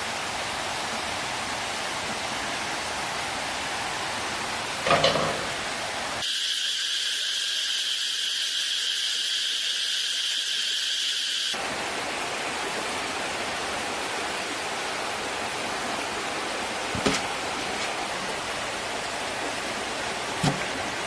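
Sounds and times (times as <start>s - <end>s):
water rushing hiss: 0.0s - 21.0s.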